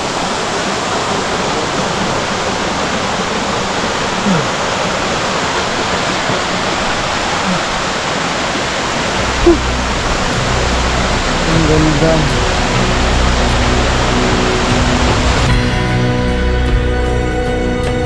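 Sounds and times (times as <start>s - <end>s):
waterfall pouring: 0.0s - 15.8s.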